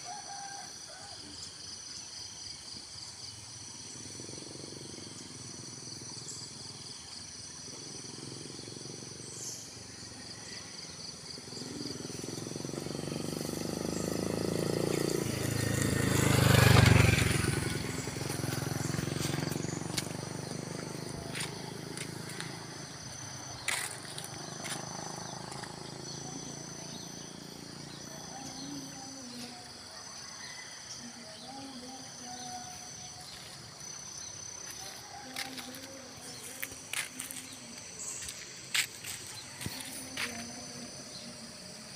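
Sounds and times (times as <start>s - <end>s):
insects chirring: 0.0s - 41.9s
motor vehicle passing: 7.7s - 41.9s.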